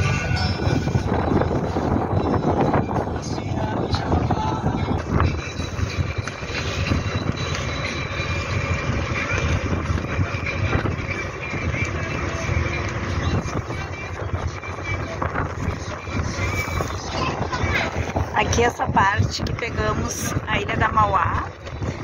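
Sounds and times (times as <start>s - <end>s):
boat engine rumble: 0.0s - 22.0s
faint voices: 0.0s - 22.0s
wind buffeting microphone: 0.0s - 22.0s.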